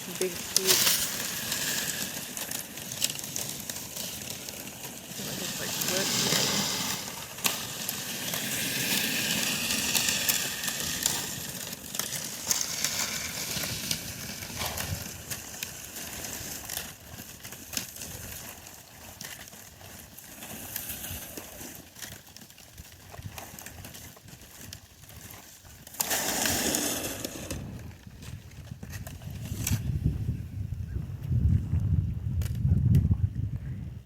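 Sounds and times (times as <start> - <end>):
ice pieces crackling and grinding: 0.0 - 29.9.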